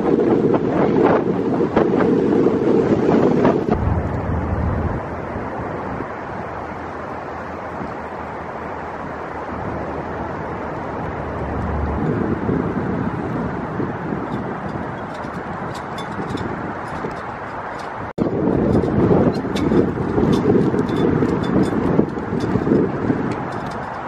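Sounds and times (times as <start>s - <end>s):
light wind: 0.0s - 24.0s
wind buffeting microphone: 0.0s - 24.0s
distant traffic: 3.2s - 24.0s.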